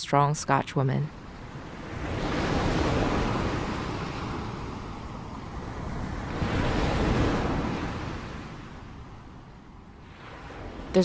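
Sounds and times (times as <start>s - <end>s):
ocean waves washing in: 1.0s - 11.0s.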